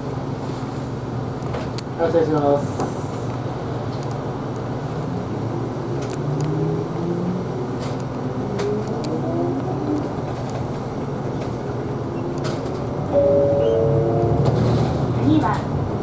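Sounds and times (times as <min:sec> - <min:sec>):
bus accelerating: 0:02.7 - 0:16.0.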